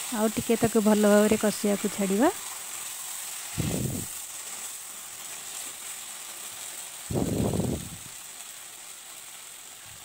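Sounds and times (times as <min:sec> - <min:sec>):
masala sizzling in a pan: 0:00.0 - 0:10.0.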